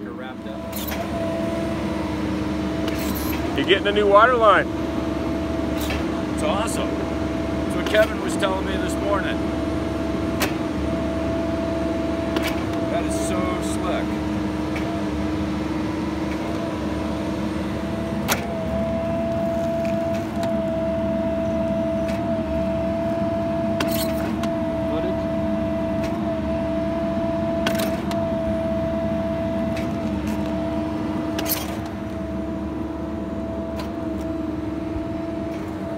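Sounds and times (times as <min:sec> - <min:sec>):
hydraulic power unit humming: 0:00.0 - 0:35.9.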